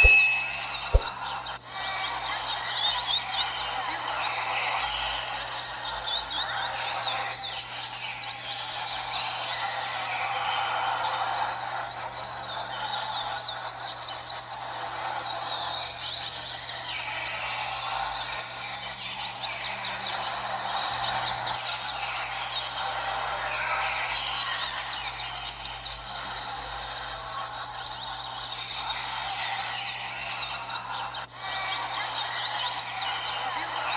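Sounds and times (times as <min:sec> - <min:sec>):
small birds singing: 0:00.0 - 0:33.9.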